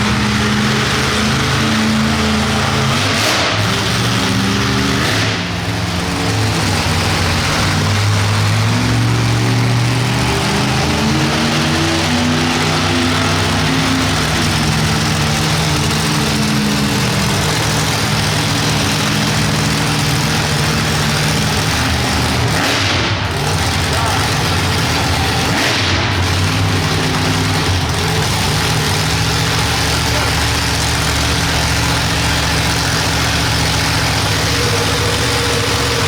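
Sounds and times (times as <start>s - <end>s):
monster truck engine running: 0.0s - 36.0s.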